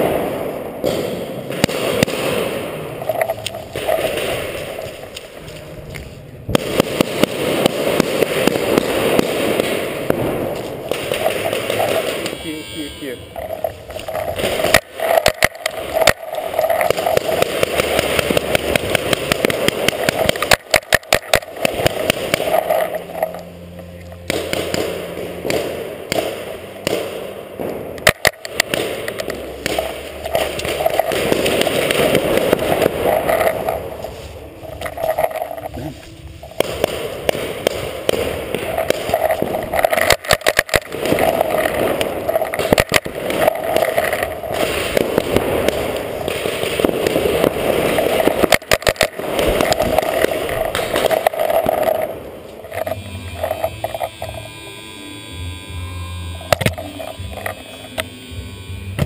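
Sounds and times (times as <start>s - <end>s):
paintball markers firing: 0.0s - 5.4s, 6.0s - 12.6s, 13.4s - 23.5s, 24.1s - 54.4s, 56.5s - 58.1s.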